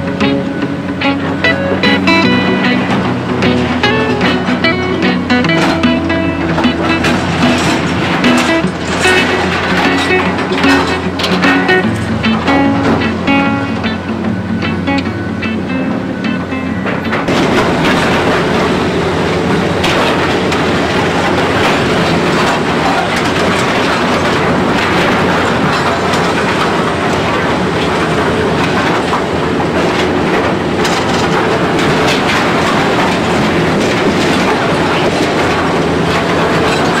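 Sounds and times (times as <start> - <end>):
diesel engine running: 0.0 - 37.0
metal and rubble clanking: 0.0 - 37.0.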